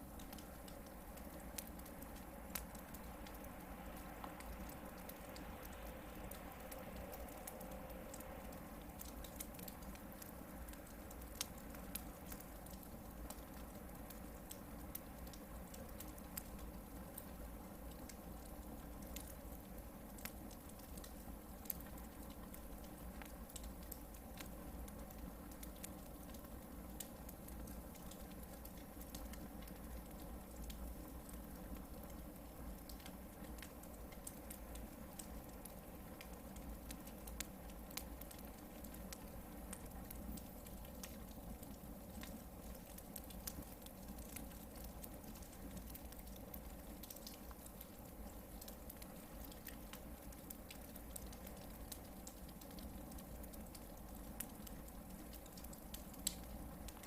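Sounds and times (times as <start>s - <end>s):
campfire crackling and popping: 0.0s - 57.0s
low fire rumble: 0.0s - 57.0s.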